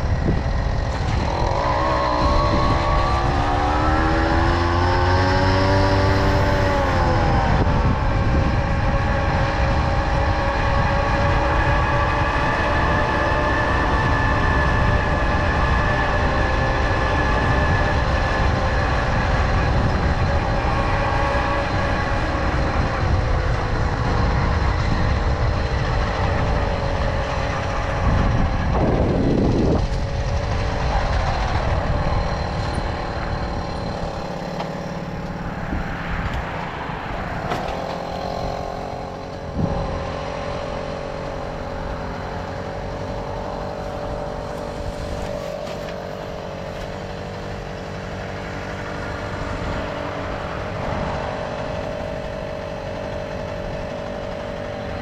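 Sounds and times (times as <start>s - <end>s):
low wind rumble: 0.0s - 55.0s
moped engine running: 0.0s - 55.0s.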